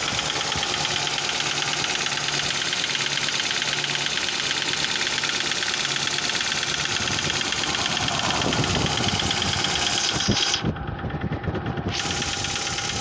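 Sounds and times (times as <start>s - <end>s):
car engine running with knocking tick: 0.0s - 13.0s.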